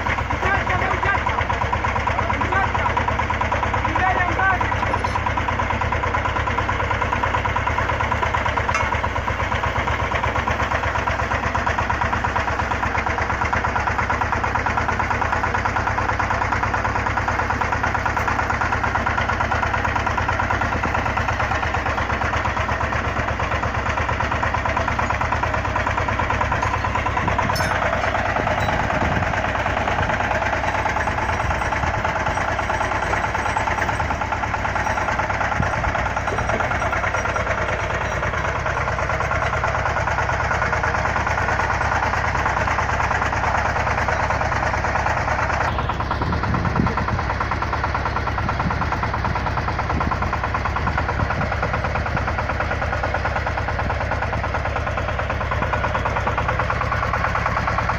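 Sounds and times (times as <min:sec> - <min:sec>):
drilling rig engine running: 0:00.0 - 0:57.9.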